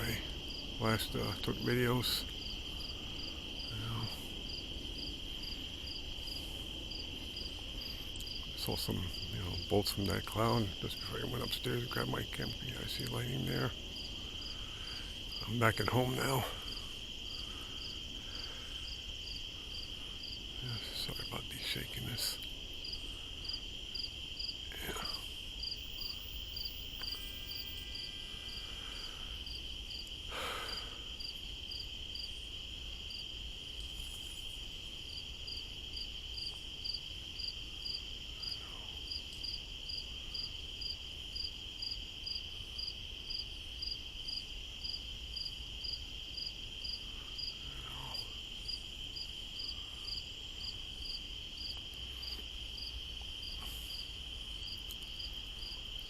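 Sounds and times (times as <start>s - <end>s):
insect chirping: 0.0s - 56.0s
insect high trill: 0.0s - 56.0s.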